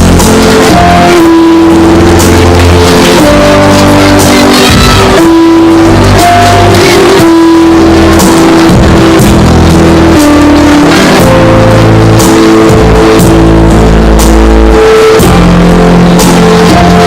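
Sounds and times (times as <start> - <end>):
loud guitar and drum music: 0.0 - 17.0.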